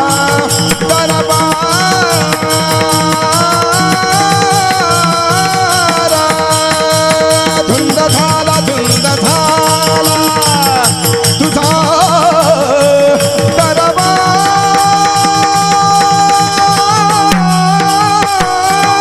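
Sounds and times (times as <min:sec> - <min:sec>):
drum beat: 0:00.0 - 0:19.0
hand cymbals: 0:00.0 - 0:19.0
man singing long notes: 0:00.0 - 0:19.0
sustained accompaniment: 0:00.0 - 0:19.0.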